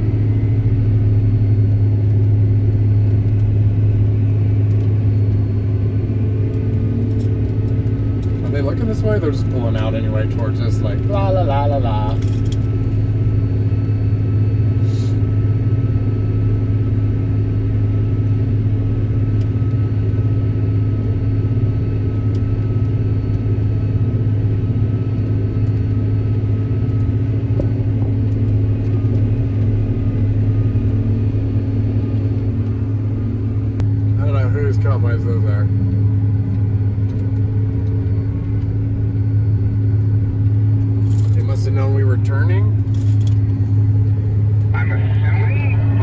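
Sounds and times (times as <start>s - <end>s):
combine engine drone in cab: 0.0s - 46.0s.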